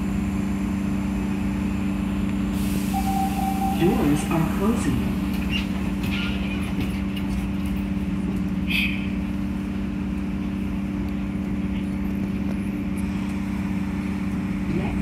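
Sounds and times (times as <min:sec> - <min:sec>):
subway car equipment humming: 0:00.0 - 0:15.0.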